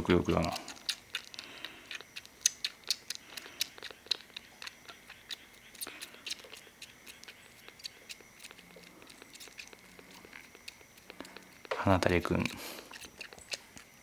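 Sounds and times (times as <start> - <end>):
kitten suckling at a bottle: 0.2 - 14.0.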